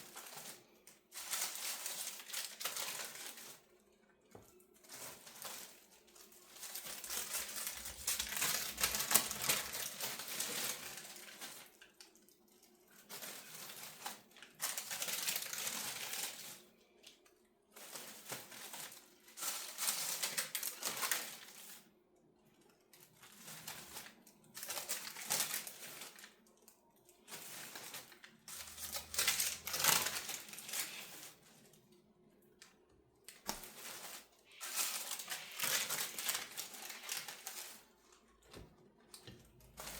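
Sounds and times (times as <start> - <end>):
wrapping crackling: 0.0 - 22.0, 22.7 - 39.9.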